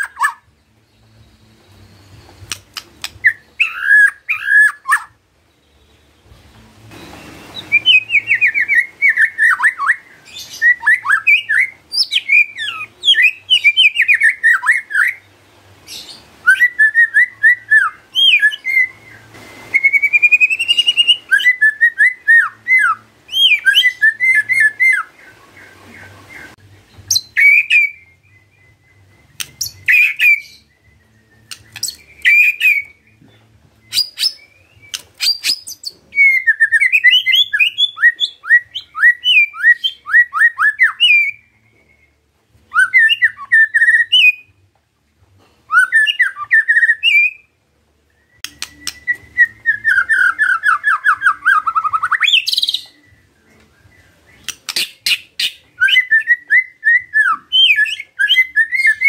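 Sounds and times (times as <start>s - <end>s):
bird singing whistled phrases: 1.1s - 6.1s, 6.9s - 15.3s, 15.9s - 44.6s, 45.7s - 47.5s, 48.1s - 59.0s.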